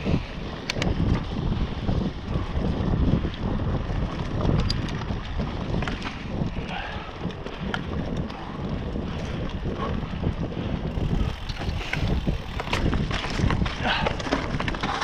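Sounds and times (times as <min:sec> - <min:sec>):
bike clicks and rattles: 0:00.0 - 0:15.0
bike tyre rumble on dirt: 0:00.0 - 0:15.0
wind buffeting microphone: 0:00.0 - 0:15.0.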